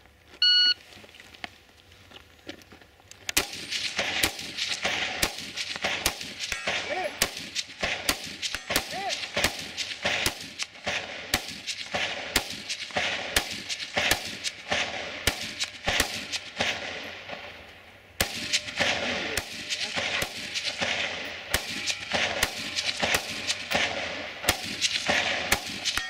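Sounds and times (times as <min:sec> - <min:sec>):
rifle shots: 0:03.3 - 0:26.0.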